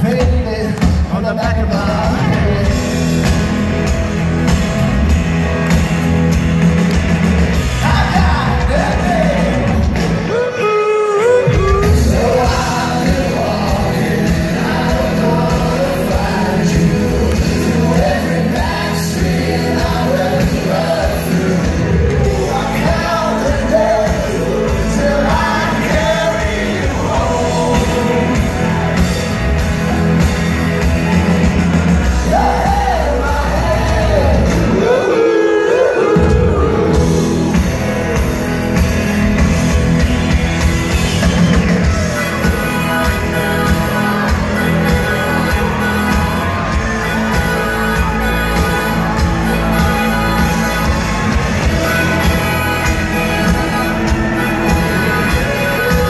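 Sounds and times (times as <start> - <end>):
lead vocal singing: 0.0 - 4.0, 7.5 - 39.2, 40.6 - 56.0
live rock band playing: 0.0 - 56.0.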